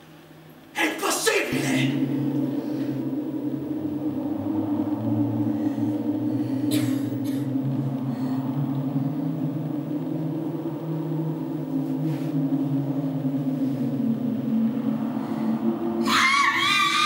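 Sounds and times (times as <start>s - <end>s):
low steady drone: 0.0s - 17.0s.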